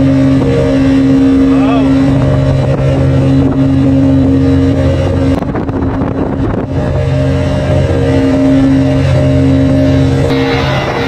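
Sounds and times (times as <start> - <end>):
rushing wind and water: 0.0 - 11.0
speedboat engine running: 0.0 - 11.0.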